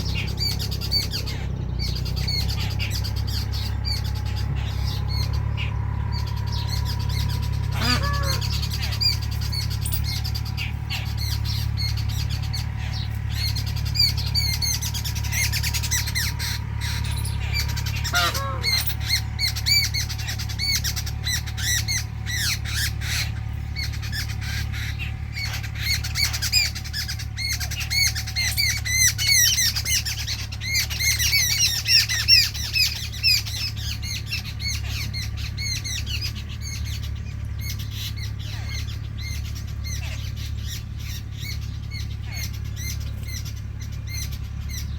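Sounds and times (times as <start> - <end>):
birds chirping and chattering: 0.0 - 44.9
low falling bird calls: 0.0 - 44.9
steady low hum: 0.0 - 44.9.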